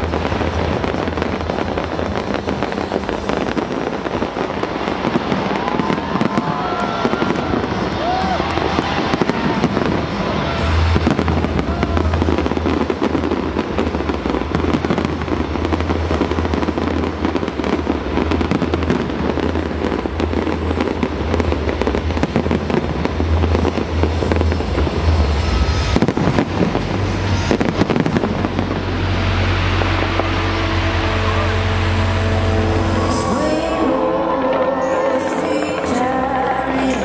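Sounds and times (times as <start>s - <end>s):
fireworks bursting and crackling: 0.0s - 37.0s.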